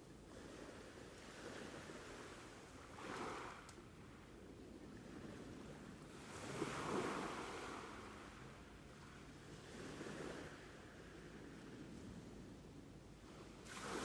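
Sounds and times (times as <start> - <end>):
ocean waves washing on shore: 0.3 - 12.5, 13.2 - 14.0.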